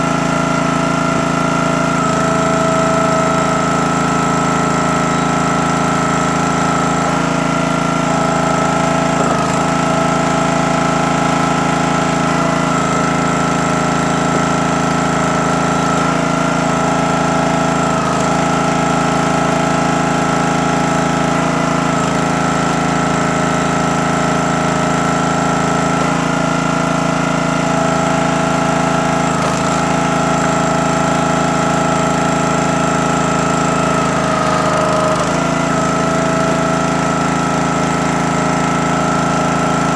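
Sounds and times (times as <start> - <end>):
log splitter engine running: 0.0 - 39.9.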